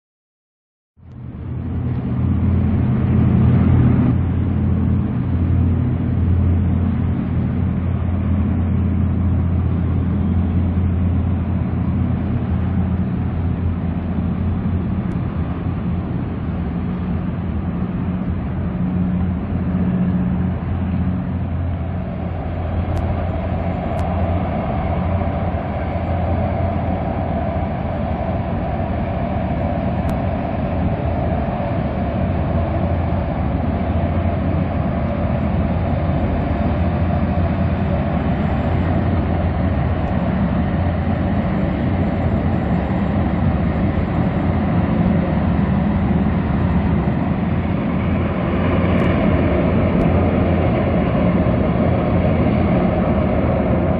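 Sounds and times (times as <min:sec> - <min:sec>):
boat engine drone: 0:01.0 - 0:53.9
gas turbine whine: 0:01.0 - 0:53.9.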